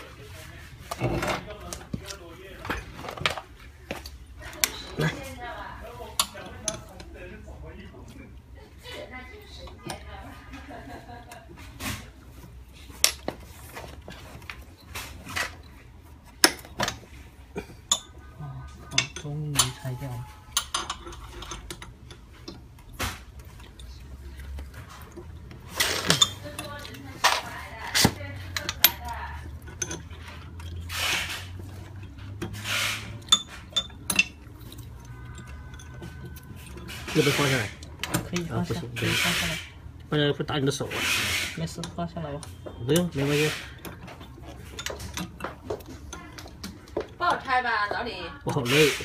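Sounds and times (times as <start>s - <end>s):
metal tools clinking and knocking: 0.8s - 5.4s, 6.0s - 7.2s, 10.7s - 39.2s, 41.7s - 47.6s.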